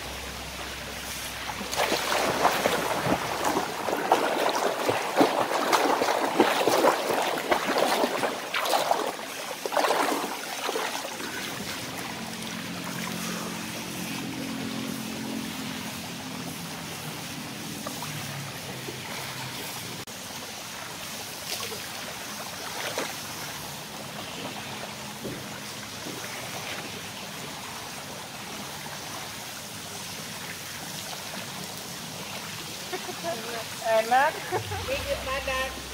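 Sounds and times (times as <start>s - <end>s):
swimming pool water splashing: 0.0s - 35.9s.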